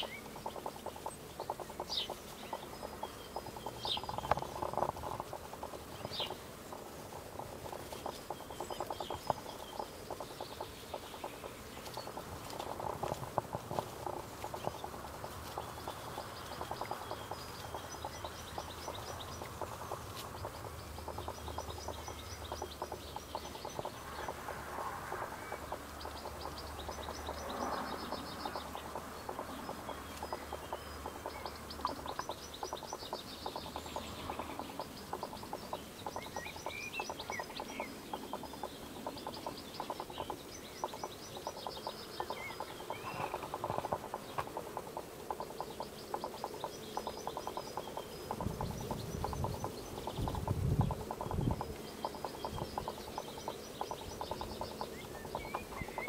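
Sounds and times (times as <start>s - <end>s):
small songbirds trilling: 0.0s - 56.0s
steady crackling noise: 0.0s - 56.0s.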